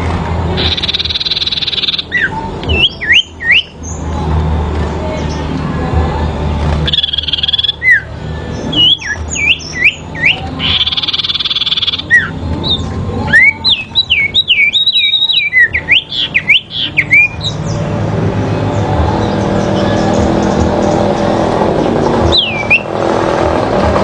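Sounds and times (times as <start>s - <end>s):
songbirds calling: 0.0s - 24.0s.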